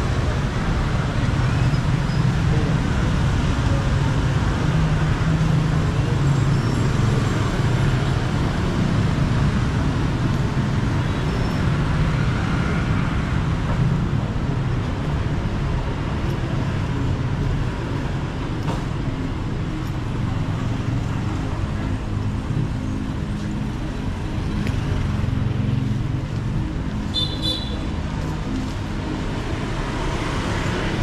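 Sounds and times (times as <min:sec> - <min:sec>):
passing vehicle engines hum: 0:00.0 - 0:31.0.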